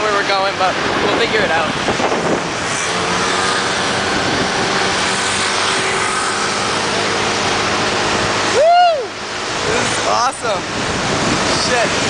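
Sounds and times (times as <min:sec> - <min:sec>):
motor scooter engine hum: 0:00.0 - 0:12.0
wind and road noise: 0:00.0 - 0:12.0.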